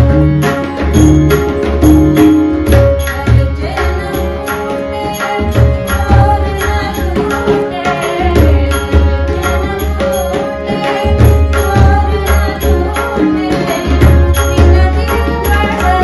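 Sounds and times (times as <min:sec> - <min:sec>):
harmonium: 0:00.0 - 0:16.0
woman singing devotional song: 0:02.7 - 0:16.0.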